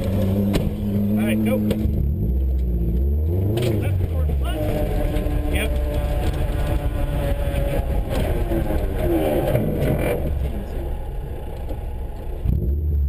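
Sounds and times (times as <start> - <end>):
low road rumble: 0.0 - 13.0
rally car engine accelerating: 0.0 - 13.0.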